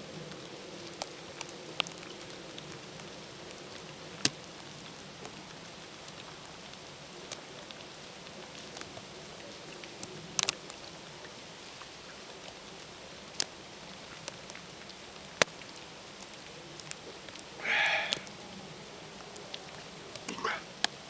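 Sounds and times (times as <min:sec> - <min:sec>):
wet snow and water dripping: 0:00.0 - 0:21.0.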